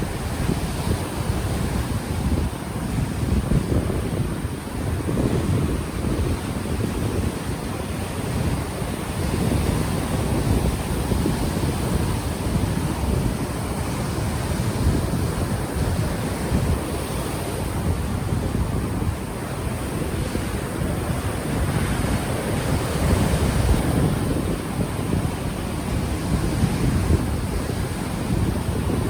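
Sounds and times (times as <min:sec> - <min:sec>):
ocean waves washing ashore: 0:00.0 - 0:29.0
wind buffeting microphone: 0:00.0 - 0:29.0.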